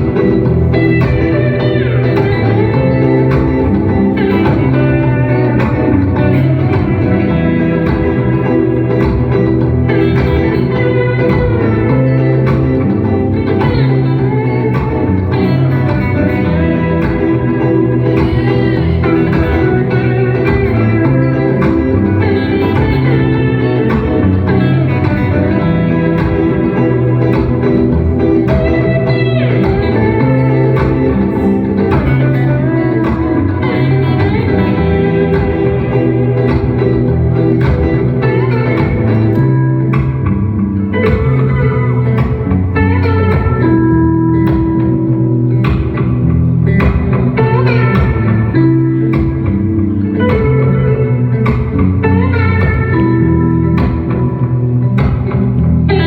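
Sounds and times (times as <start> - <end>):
plucked guitar duo music: 0.0 - 56.0.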